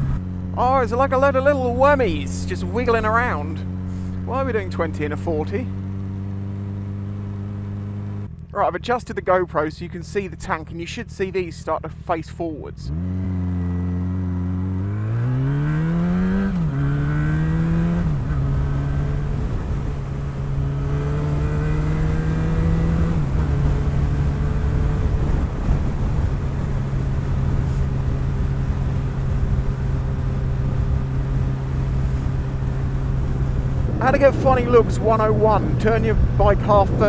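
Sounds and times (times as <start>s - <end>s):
motorcycle engine pulling away: 1.8s - 8.6s, 12.9s - 37.0s.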